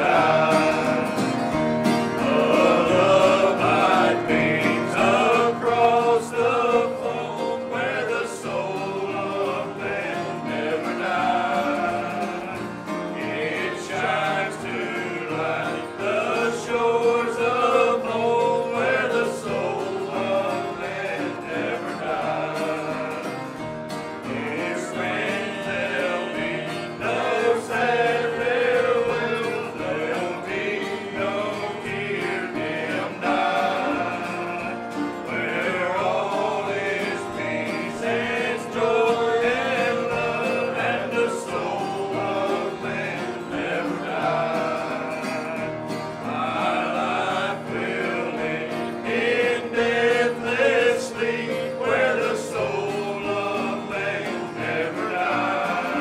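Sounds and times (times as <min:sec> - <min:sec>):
men singing a hymn: 0:00.0 - 0:56.0
strummed acoustic guitar: 0:00.0 - 0:56.0.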